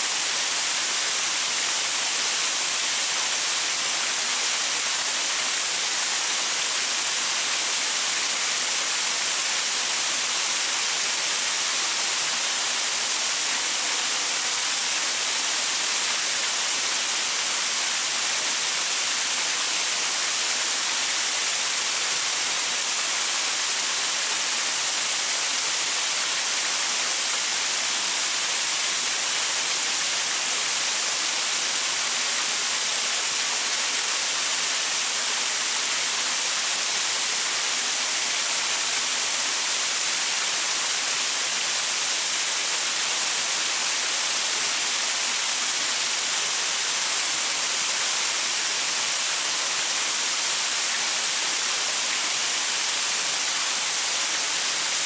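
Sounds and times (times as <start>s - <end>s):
waterfall splashing over rocks: 0.0s - 55.0s.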